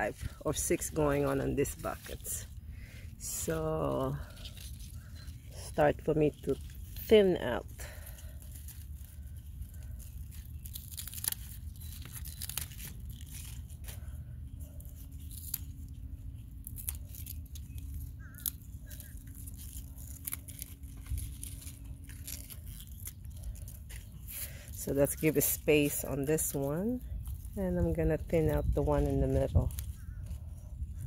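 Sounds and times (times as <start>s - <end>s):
leaves rustling and snapping: 0.0s - 31.0s
low steady rumble: 0.0s - 31.0s.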